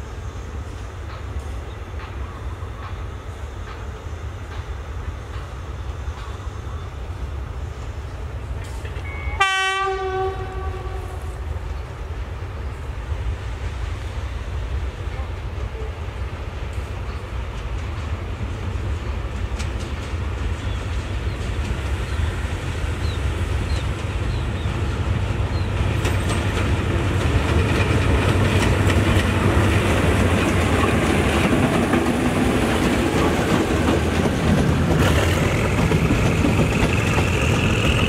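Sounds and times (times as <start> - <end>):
locomotive engine rumbling: 0.4 - 38.0.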